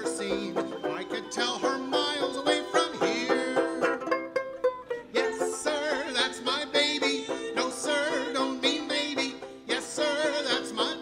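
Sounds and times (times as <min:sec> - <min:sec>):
woman and man singing: 0:00.0 - 0:04.0, 0:05.0 - 0:11.0
banjo strumming: 0:00.0 - 0:11.0.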